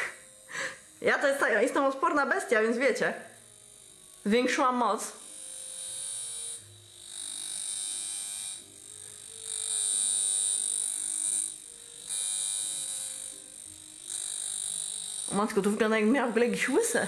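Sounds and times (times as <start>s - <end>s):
electrode buzzing with high whine: 0.0s - 17.0s.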